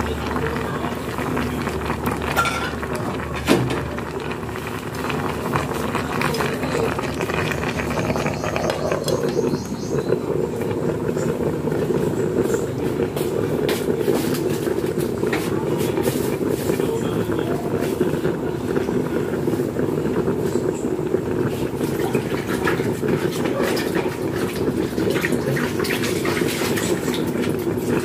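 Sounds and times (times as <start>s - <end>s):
food crackling in a pan: 0.0s - 28.0s.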